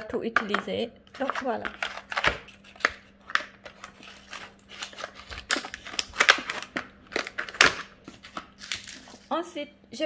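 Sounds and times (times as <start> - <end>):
packaging crinkling and rustling: 1.1 - 9.3.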